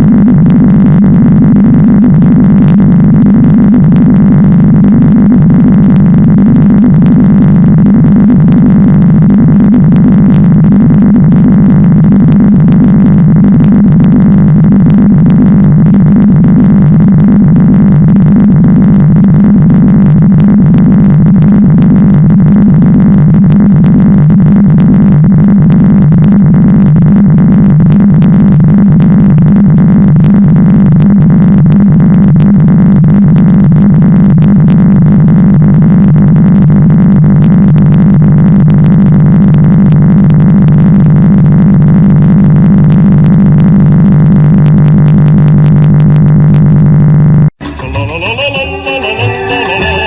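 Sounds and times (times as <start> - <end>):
rapid crackle: 0.0 - 47.6
distorted electronic buzzing: 0.0 - 50.0.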